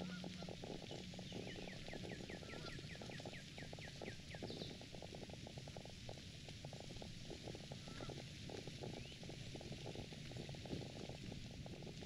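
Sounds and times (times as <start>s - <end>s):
dense low crackling: 0.0s - 12.0s.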